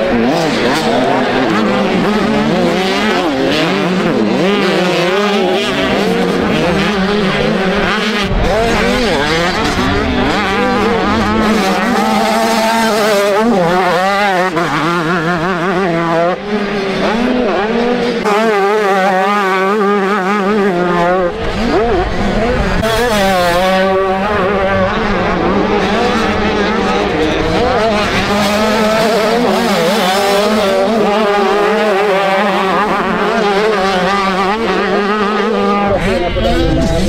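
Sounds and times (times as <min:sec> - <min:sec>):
motocross bike engines revving: 0:00.0 - 0:37.0.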